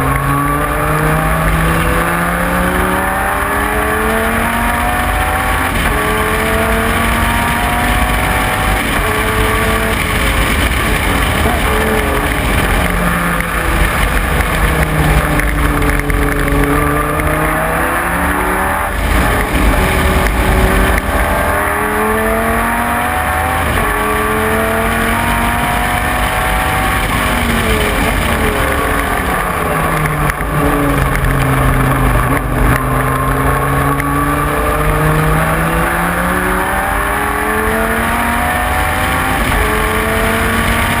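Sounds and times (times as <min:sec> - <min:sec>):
race car engine accelerating: 0:00.0 - 0:41.0.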